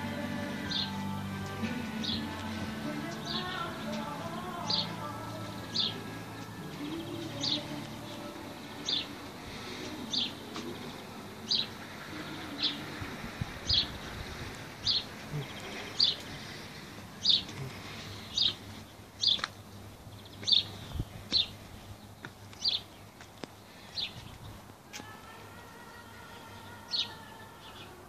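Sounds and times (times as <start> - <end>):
faint outdoor background: 0.0 - 28.0.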